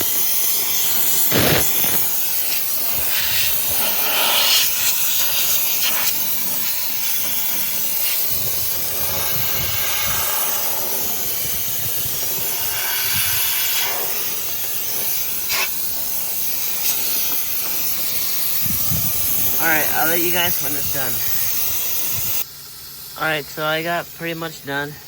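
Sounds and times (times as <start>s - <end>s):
steam cleaner hissing: 0.0s - 25.0s.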